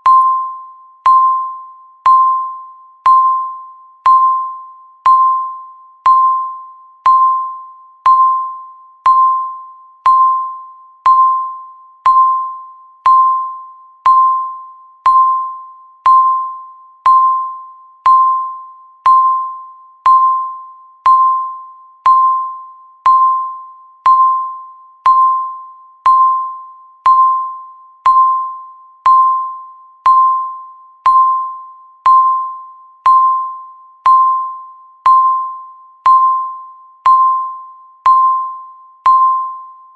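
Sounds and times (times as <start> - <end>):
countdown timer beep: 0.0 - 39.9.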